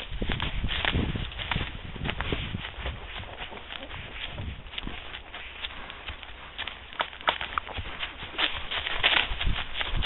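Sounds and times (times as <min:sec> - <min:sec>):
horse hooves in dry leaves: 0:00.0 - 0:10.0
rustling leaves: 0:00.0 - 0:10.0.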